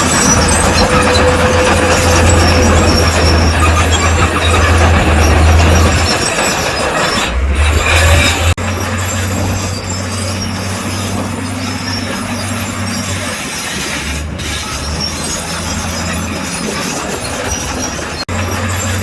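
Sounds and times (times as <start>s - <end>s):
diesel engine running: 0.0s - 19.0s
steel tracks clattering: 0.0s - 19.0s.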